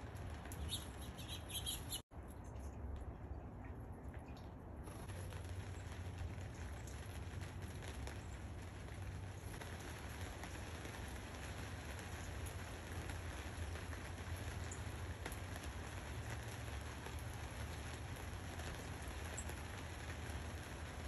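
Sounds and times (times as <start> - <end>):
steady rain pattering: 0.0 - 21.0.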